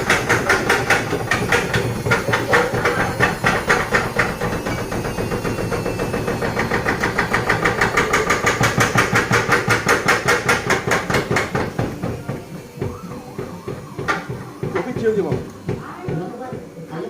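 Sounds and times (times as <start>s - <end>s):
washing machine drum knocking: 0.0s - 16.8s.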